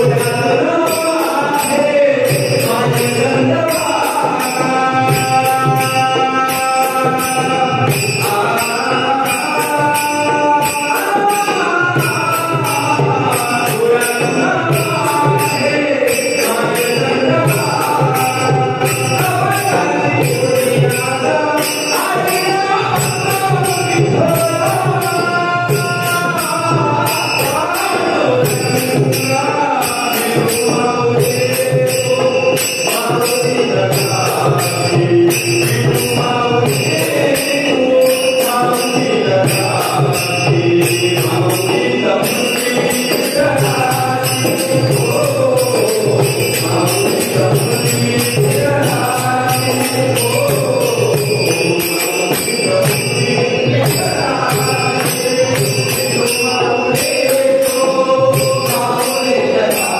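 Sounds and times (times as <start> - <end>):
hand cymbals jingling: 0.0 - 59.9
held accompanying tones: 0.0 - 59.9
lead singer singing devotional song: 0.0 - 59.9.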